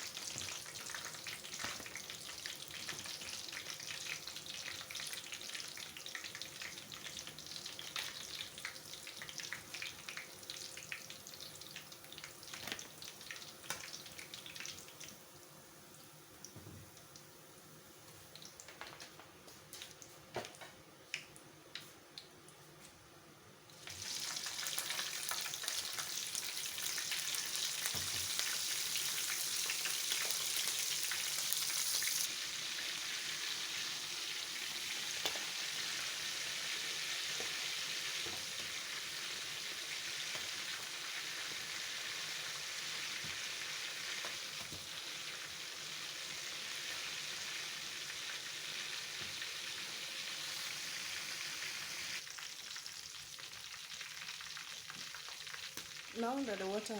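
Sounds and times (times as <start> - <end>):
chicken sizzling in frying pan: 0.0 - 16.4, 23.8 - 56.9.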